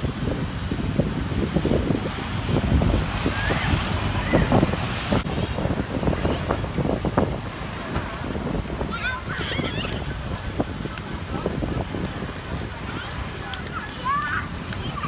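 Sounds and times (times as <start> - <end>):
faint street sounds: 0.0 - 15.0
wind buffeting microphone: 0.0 - 15.0.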